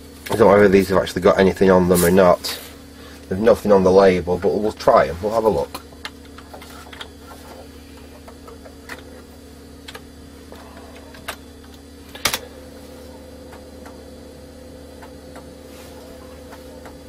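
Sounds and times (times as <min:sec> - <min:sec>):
computer humming: 0:00.0 - 0:17.0
floppy drive running: 0:00.0 - 0:17.0.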